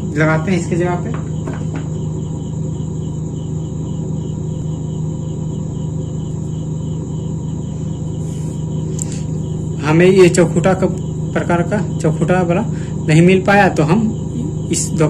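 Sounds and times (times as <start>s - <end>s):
faint high-pitched chirping: 0.0s - 15.0s
low background hum: 0.0s - 15.0s.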